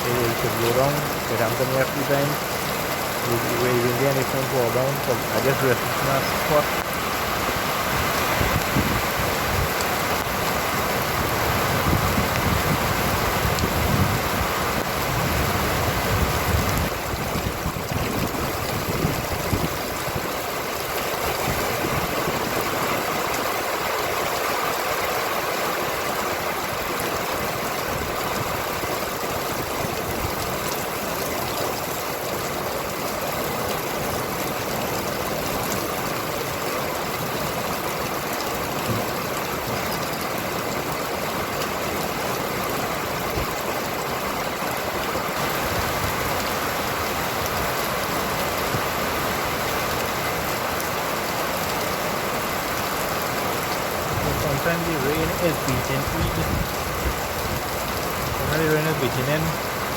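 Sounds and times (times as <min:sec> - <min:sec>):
rain on the street: 0:00.0 - 0:59.9.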